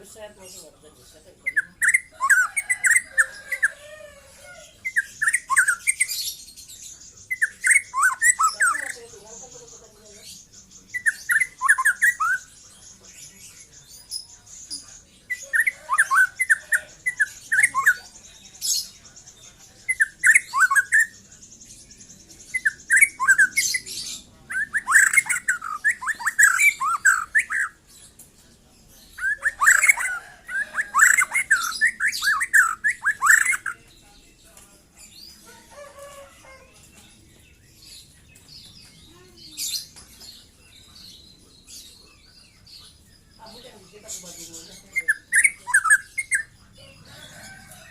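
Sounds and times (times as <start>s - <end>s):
bird singing varied phrases: 0.0s - 47.9s.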